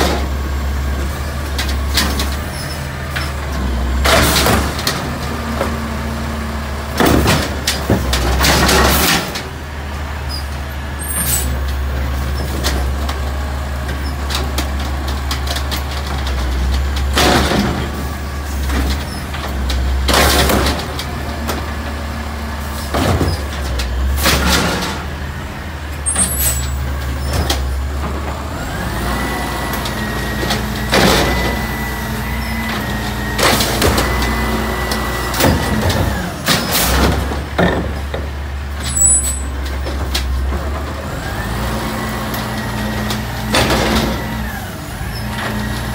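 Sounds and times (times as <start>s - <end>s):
diesel engine low rumble: 0.0s - 45.9s
hydraulic arm lifting bins: 0.0s - 45.9s
bins banging and clattering: 1.0s - 5.8s, 6.9s - 9.5s, 11.1s - 25.3s, 26.0s - 45.9s.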